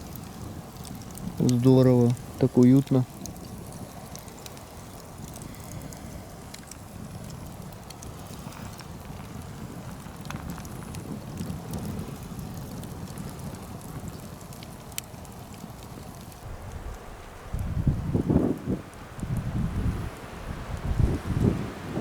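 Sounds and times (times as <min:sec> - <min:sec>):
faint fire crackles: 0:00.0 - 0:22.0
log fire rushing: 0:00.0 - 0:22.0.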